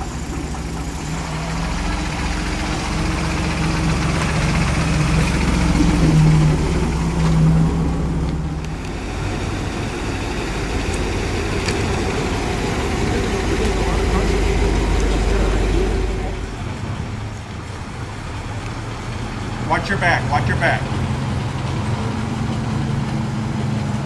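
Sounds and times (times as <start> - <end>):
car engine driving past: 0.0 - 24.0
low rumble of car pulling up: 0.0 - 24.0.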